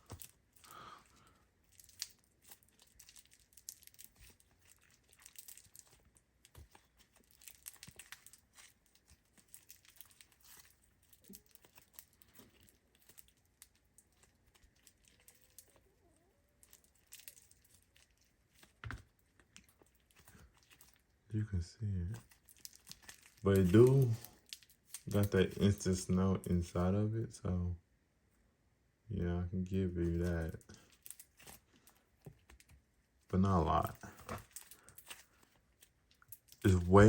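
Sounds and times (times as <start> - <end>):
slime crackling and squishing: 0.0 - 21.2, 22.1 - 26.7, 30.0 - 37.0.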